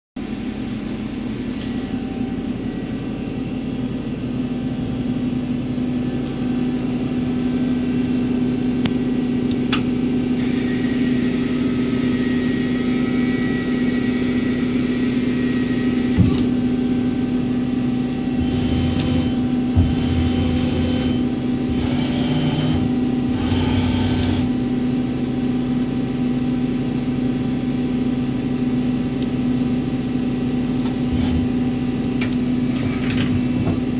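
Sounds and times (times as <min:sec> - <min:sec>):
thin whine: 0:00.2 - 0:33.9
lathe machine hum: 0:00.4 - 0:25.8, 0:29.6 - 0:33.9.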